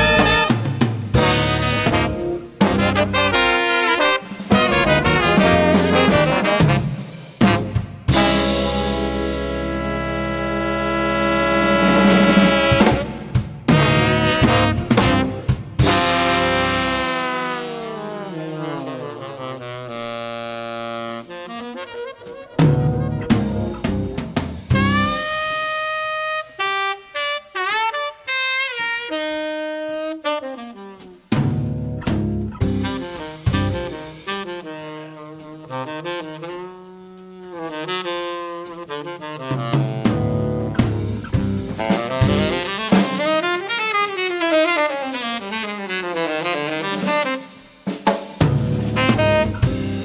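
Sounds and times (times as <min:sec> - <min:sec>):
saxophone solo: 0:00.0 - 0:48.0, 0:48.8 - 0:50.0
band with drums: 0:00.0 - 0:50.0.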